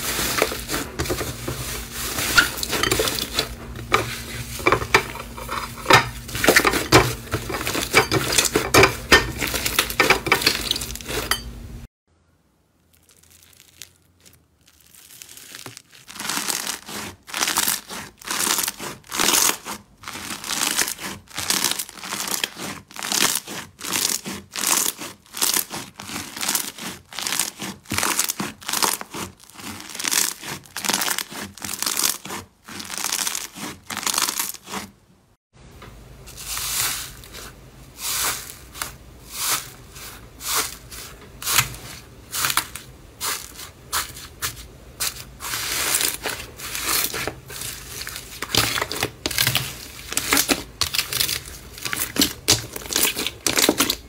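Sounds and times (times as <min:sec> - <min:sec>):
foam slime crackling and popping: 0:00.0 - 0:03.5, 0:12.8 - 0:34.9, 0:36.3 - 0:54.0
textured slime crunching: 0:00.0 - 0:11.3, 0:12.8 - 0:35.0, 0:36.3 - 0:54.0.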